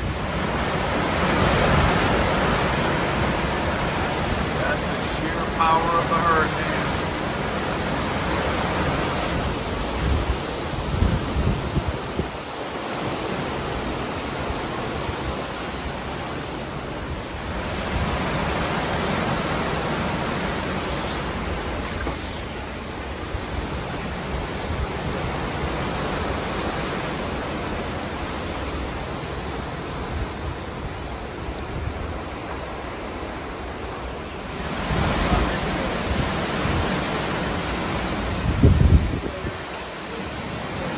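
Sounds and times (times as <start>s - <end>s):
heavy rain: 0.0s - 40.9s
hurricane wind gusts: 0.0s - 40.9s.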